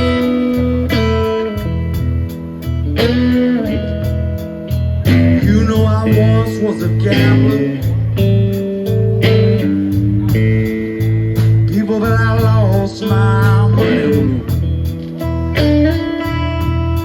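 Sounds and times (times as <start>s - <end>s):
blues guitar lead notes: 0.0s - 17.0s
low bass notes: 0.0s - 17.0s.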